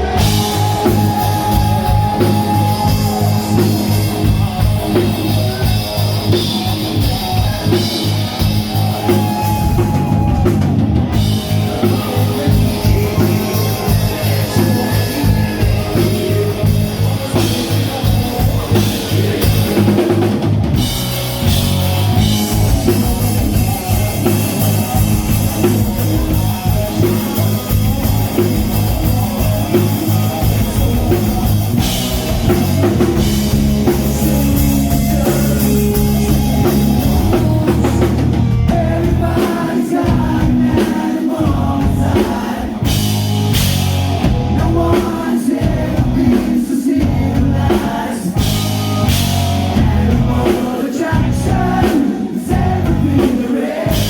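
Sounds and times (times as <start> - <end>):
person singing: 0.0 - 43.4, 44.2 - 54.0
drum beats: 0.0 - 54.0
metal band playing live: 0.0 - 54.0.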